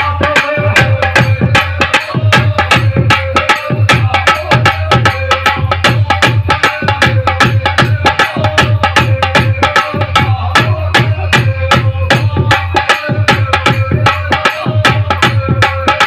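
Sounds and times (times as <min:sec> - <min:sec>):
hand drum rhythm: 0:00.0 - 0:16.0.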